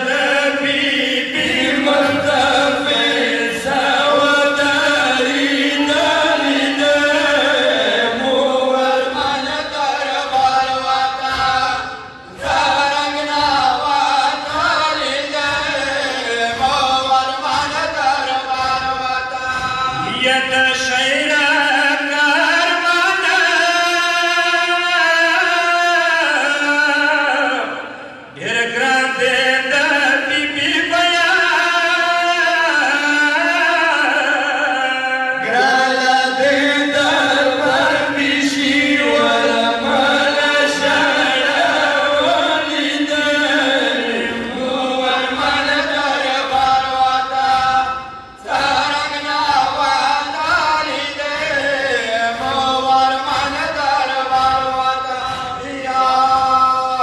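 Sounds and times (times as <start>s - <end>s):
men chanting a lament: 0.0s - 57.0s.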